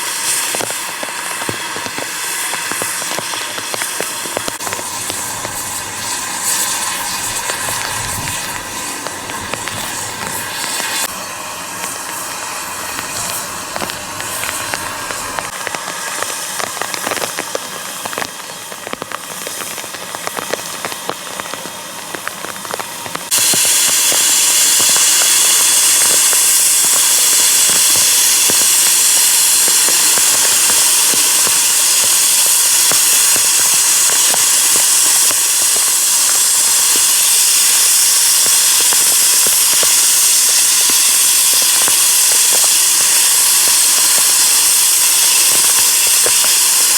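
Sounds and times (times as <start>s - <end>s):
crackling clicking noise: 0.0s - 46.9s
steam locomotive hissing: 0.0s - 46.9s.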